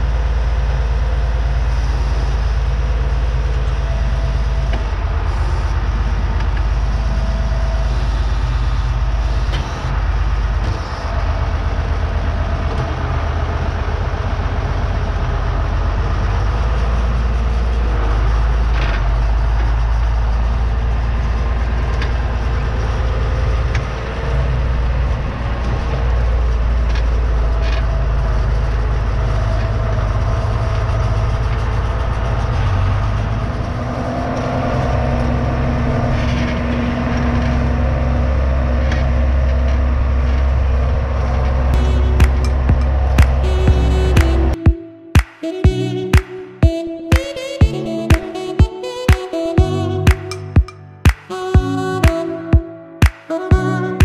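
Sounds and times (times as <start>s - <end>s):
tractor engine rumbling: 0.0s - 45.1s.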